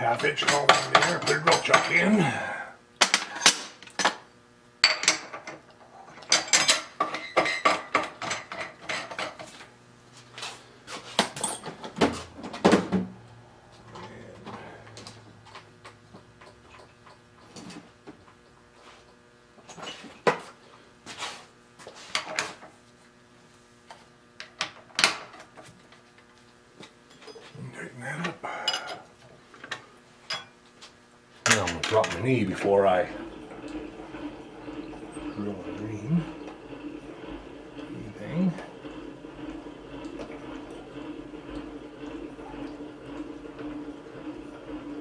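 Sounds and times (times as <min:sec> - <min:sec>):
faint steady hum: 0:00.0 - 0:21.1, 0:22.1 - 0:45.0.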